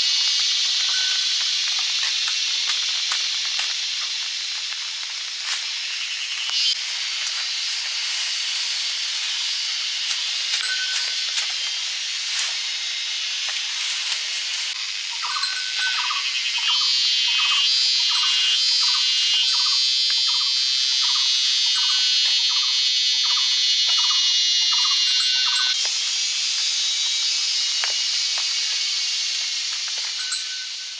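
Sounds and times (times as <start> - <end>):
steady high hiss: 0.0 - 19.7, 20.6 - 30.9
insects trilling and buzzing: 0.0 - 30.9.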